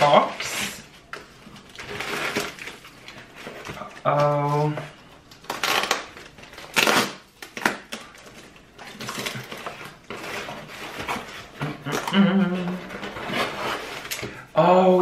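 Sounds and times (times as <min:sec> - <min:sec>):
packaging rustling and crinkling: 0:00.0 - 0:12.1.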